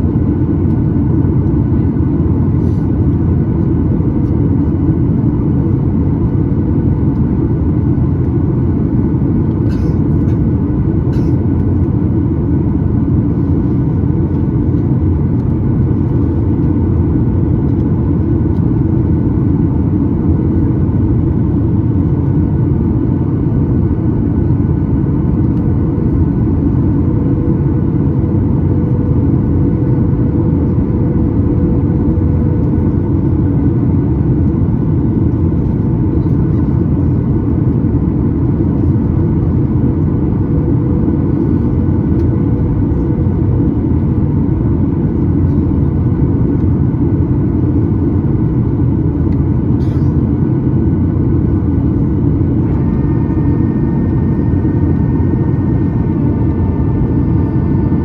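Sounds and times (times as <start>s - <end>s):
airplane cabin rumble: 0.0s - 58.0s.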